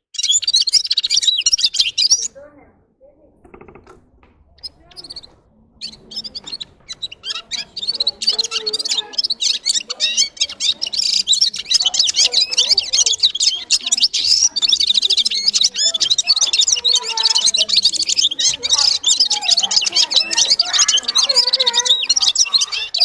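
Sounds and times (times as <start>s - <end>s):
bird twittering song: 0.0s - 2.4s, 3.4s - 23.0s.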